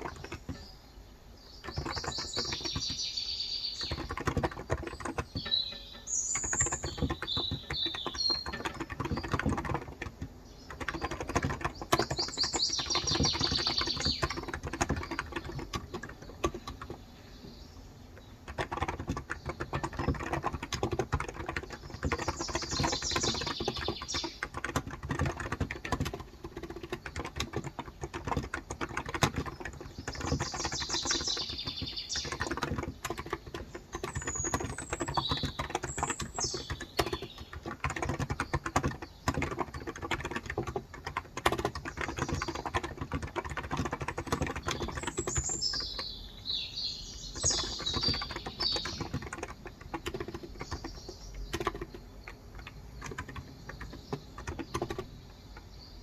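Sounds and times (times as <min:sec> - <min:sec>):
fast keyboard typing: 0:00.0 - 0:00.7, 0:01.5 - 0:17.2, 0:18.2 - 0:56.0
birds chirping: 0:00.0 - 0:56.0.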